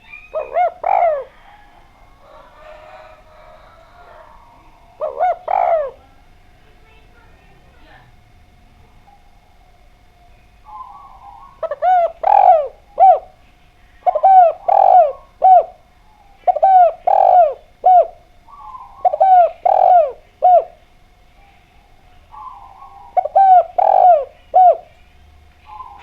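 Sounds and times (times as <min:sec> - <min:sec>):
dove cooing: 0:00.0 - 0:26.0.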